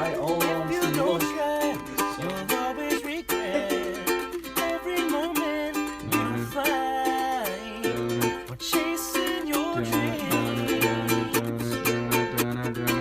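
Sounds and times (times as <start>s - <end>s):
song with plucked strings: 0.0s - 13.0s.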